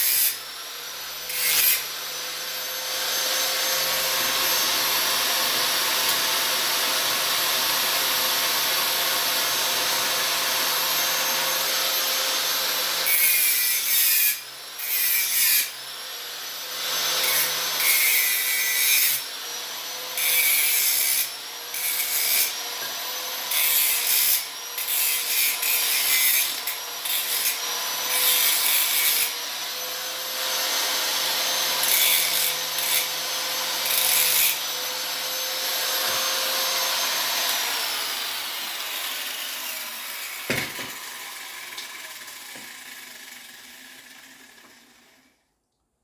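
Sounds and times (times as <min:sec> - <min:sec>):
grinder winding down: 0:00.0 - 0:15.7, 0:16.6 - 0:45.4
electric grinder cutting steel: 0:00.0 - 0:45.4.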